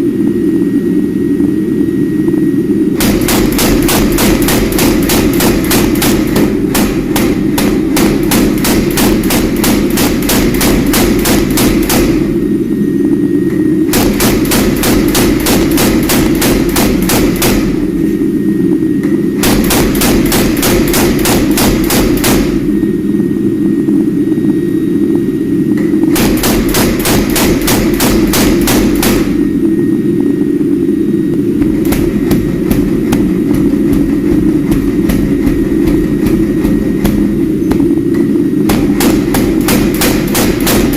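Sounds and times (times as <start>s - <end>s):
steady low drone: 0.0s - 40.9s.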